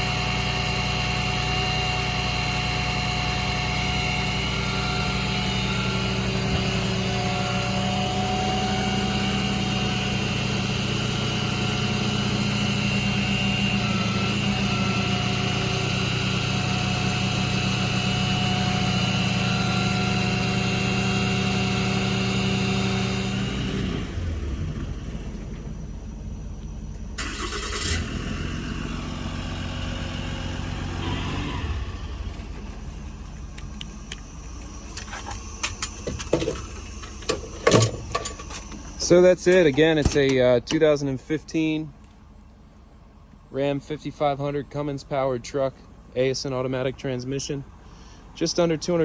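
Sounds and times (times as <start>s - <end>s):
diesel engine running: 0.0s - 49.0s
high whine: 0.0s - 49.0s.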